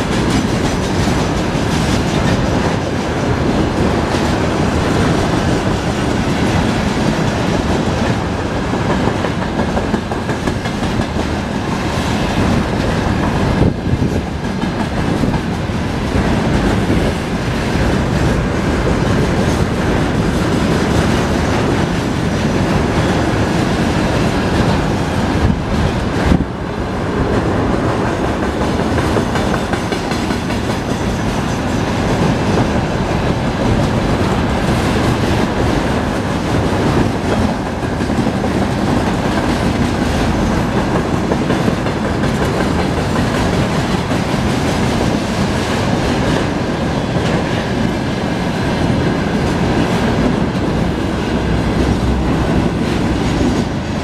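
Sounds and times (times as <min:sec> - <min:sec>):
freight train wheels rumbling on rails: 0:00.0 - 0:54.0.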